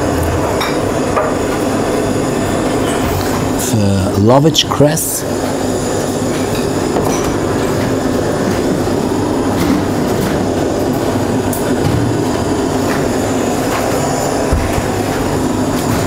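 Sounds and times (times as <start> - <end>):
mechanical rumble and hiss: 0.0 - 16.0.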